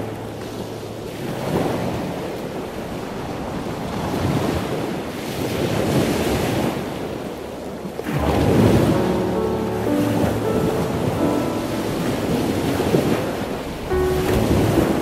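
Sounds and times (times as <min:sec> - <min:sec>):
ocean waves on shore: 0:00.0 - 0:15.0.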